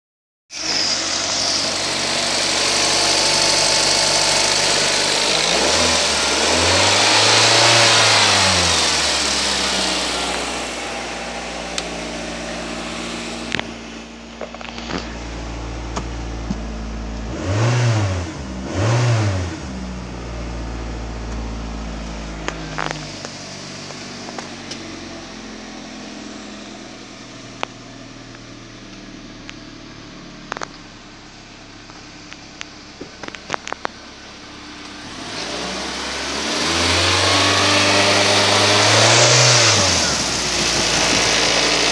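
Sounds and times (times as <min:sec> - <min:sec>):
car engine revving and idling: 0:00.5 - 0:41.9.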